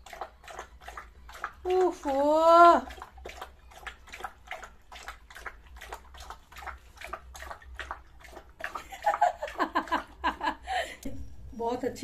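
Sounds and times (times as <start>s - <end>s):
dog lapping water: 0.0s - 10.7s.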